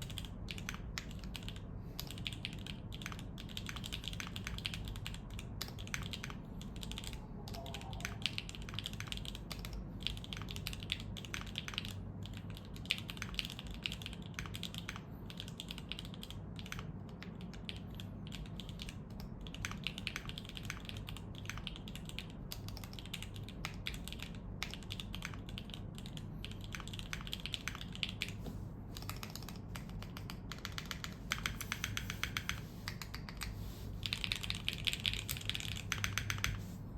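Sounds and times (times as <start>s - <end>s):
mechanical keyboard typing: 0.0s - 28.4s, 29.0s - 36.8s.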